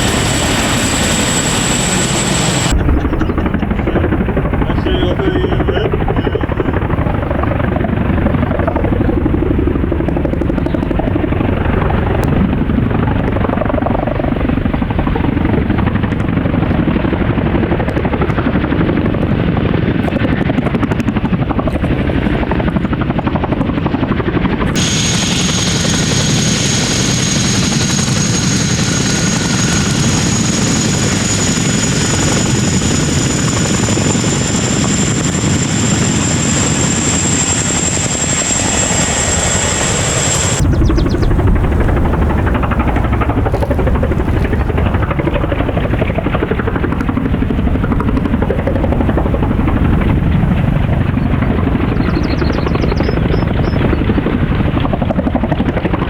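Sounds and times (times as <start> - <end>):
high turbine whine: 0.0 - 55.1
helicopter rotor noise: 0.0 - 56.0.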